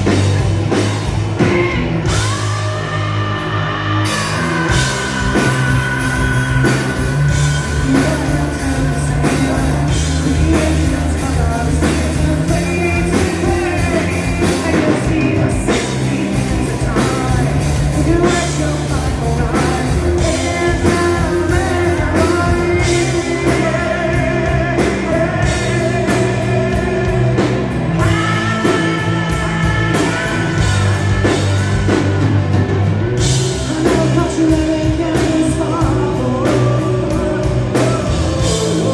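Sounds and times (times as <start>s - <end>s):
bass guitar: 0.0s - 38.9s
distorted electric guitar: 0.0s - 38.9s
drum kit: 0.0s - 38.9s
man singing lead vocals: 0.0s - 38.9s.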